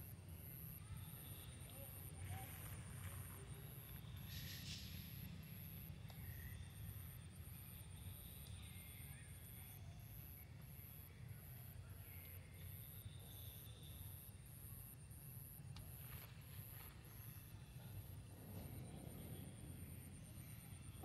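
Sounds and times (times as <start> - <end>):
faint high-pitched pulsing buzz: 0.0 - 21.0.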